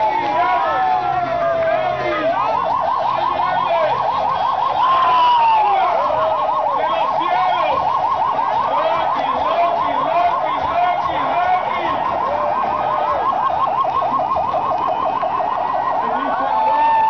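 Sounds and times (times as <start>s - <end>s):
siren wailing: 0.0s - 17.0s
siren yelping: 0.0s - 17.0s.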